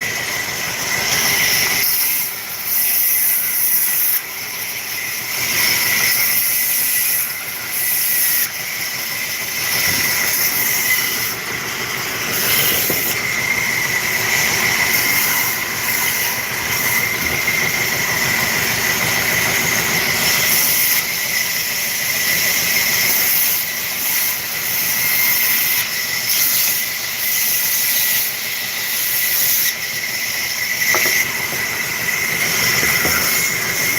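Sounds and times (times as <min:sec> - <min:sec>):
woodworking machine whining: 0:00.0 - 0:33.9.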